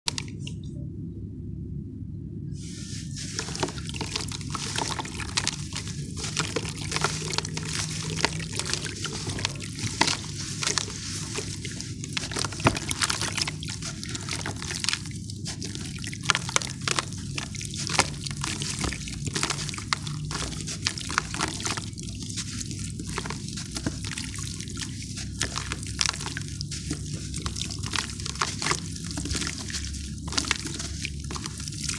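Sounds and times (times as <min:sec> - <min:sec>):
gritty crunching and crackling: 0:02.6 - 0:31.9
water sloshing and dripping: 0:02.6 - 0:31.9.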